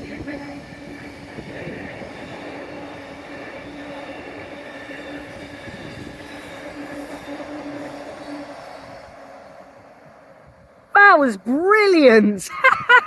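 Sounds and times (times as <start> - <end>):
freight train rumbling on rails: 0.0 - 10.9
locomotive humming tone: 0.0 - 12.2.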